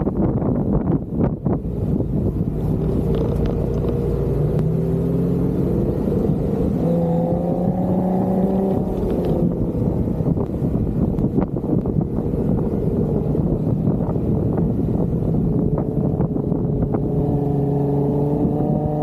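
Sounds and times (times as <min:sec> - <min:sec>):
wind rumble on microphone: 0:00.0 - 0:19.0
off-road vehicle engine revving: 0:01.5 - 0:19.0.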